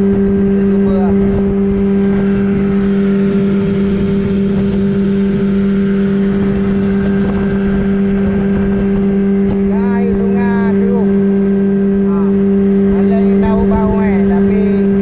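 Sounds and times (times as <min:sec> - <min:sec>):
small outboard motor running: 0:00.0 - 0:15.0
water rushing past hull: 0:00.0 - 0:15.0.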